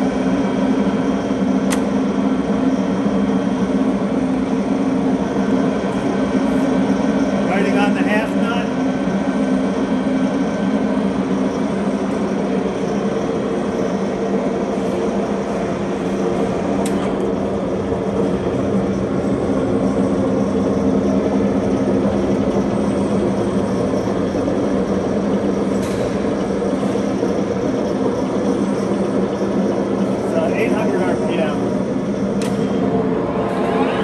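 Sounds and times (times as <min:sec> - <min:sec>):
lathe motor humming: 0:00.0 - 0:34.0.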